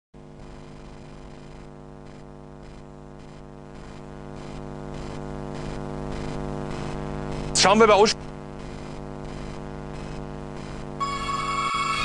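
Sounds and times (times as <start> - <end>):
low hum with overtones: 0.2 - 12.0.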